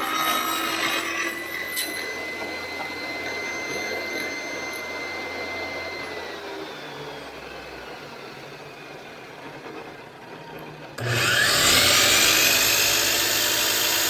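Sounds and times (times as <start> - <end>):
power saw motor whining: 0.0 - 14.0.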